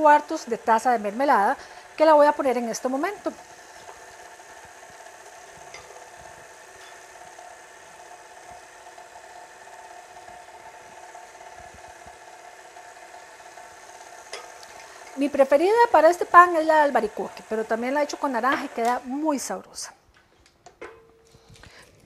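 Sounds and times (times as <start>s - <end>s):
beater turning through batter: 0.0s - 19.5s
stand mixer motor whining: 0.0s - 19.5s.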